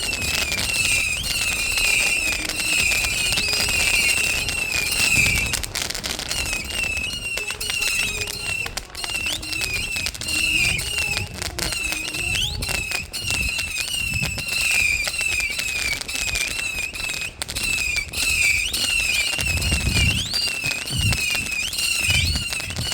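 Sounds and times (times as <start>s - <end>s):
deep firework booms: 0.0s - 22.9s
firework whistles: 0.0s - 22.9s
fireworks crackling: 0.0s - 22.9s.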